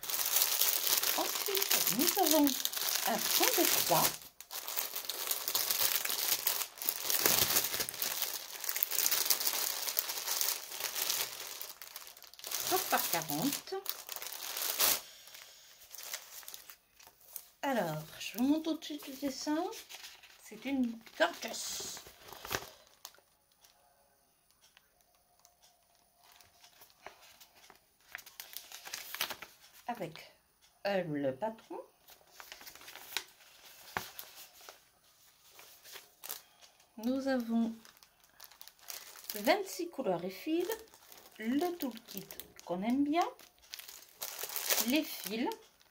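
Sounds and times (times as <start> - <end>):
packaging crinkling and rustling: 0.0 - 23.8, 24.5 - 29.8, 32.0 - 45.9.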